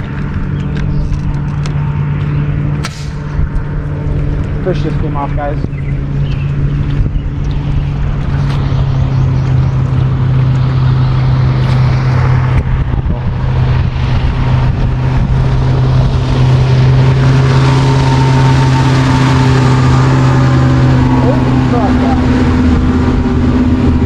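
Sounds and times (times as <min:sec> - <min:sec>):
boat motor droning: 0:00.0 - 0:24.0.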